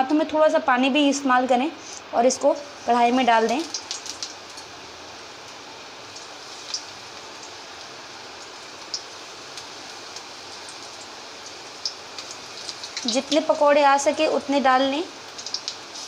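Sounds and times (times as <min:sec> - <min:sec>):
oil sizzling while deep-frying: 0:00.0 - 0:16.0.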